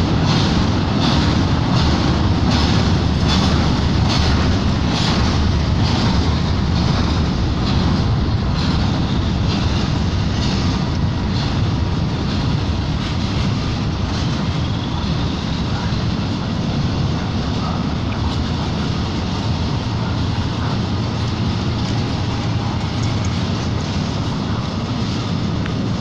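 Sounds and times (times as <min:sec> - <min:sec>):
regular rail clack: 0:00.0 - 0:26.0
train wheels rumbling on rails: 0:00.0 - 0:26.0.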